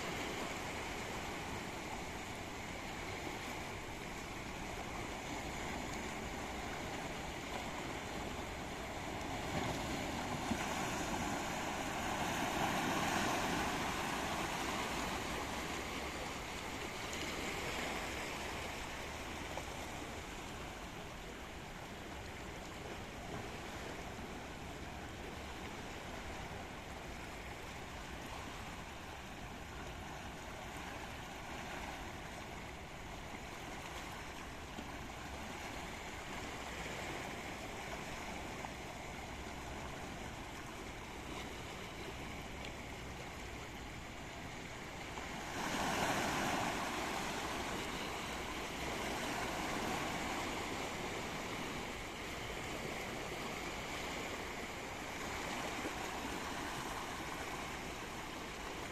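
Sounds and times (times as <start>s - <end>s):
sea waves washing in: 0.0s - 58.9s.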